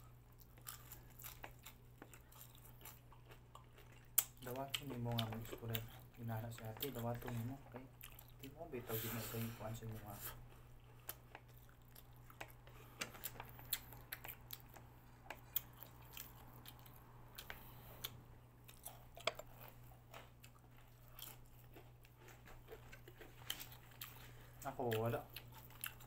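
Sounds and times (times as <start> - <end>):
chewing crispy fried chicken: 0.0 - 8.6, 9.4 - 26.0
steady low hum: 0.0 - 26.0.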